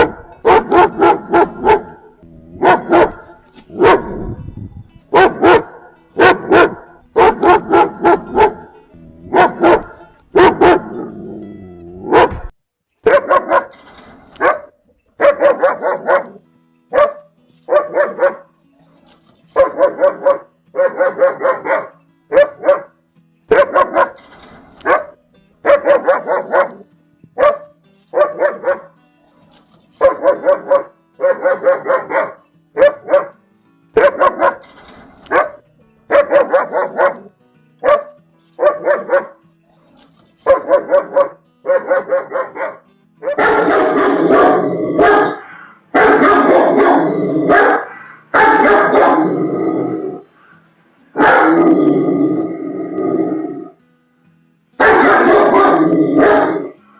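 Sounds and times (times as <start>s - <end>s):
dog barking: 0.0s - 4.4s, 5.1s - 11.2s, 12.0s - 18.5s, 19.5s - 26.8s, 27.4s - 29.0s, 30.0s - 33.4s, 34.0s - 39.4s, 40.4s - 49.5s, 51.2s - 51.8s, 54.8s - 56.8s.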